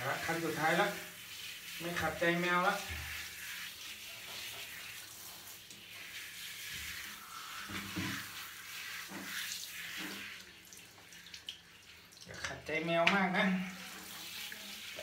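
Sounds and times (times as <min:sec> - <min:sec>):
shower head spraying water: 0:00.0 - 0:11.1, 0:12.7 - 0:15.0.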